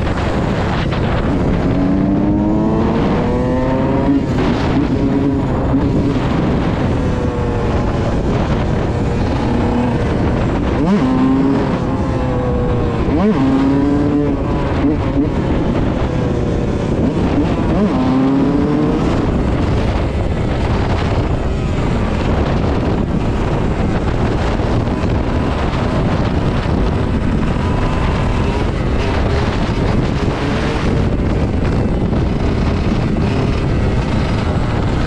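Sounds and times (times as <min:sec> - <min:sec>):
two-stroke dirt bike engine: 0:00.0 - 0:35.0
wind buffeting microphone: 0:00.0 - 0:35.0.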